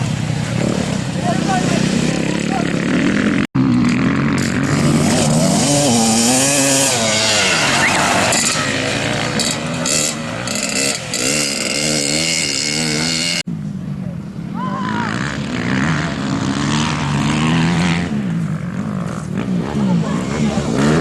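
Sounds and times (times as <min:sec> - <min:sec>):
motorcycle engine revving: 0:00.0 - 0:13.5, 0:15.1 - 0:21.0.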